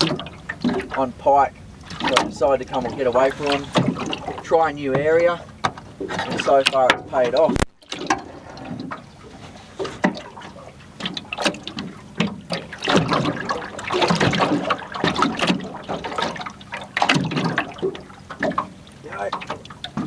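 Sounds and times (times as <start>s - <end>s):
water splashing against boat: 0.0s - 20.0s.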